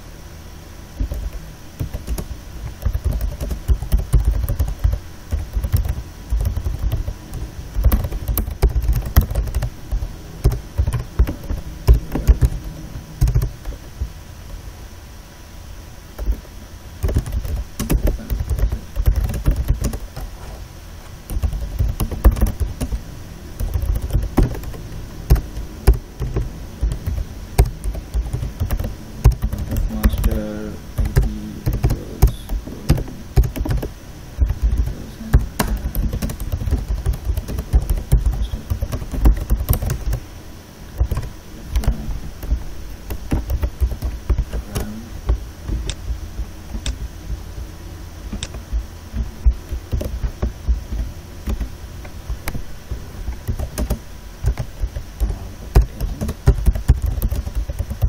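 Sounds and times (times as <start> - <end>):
keyboard typing: 1.0 - 13.8, 16.2 - 20.3, 21.2 - 23.0, 23.6 - 40.2, 41.0 - 46.1, 48.3 - 58.0.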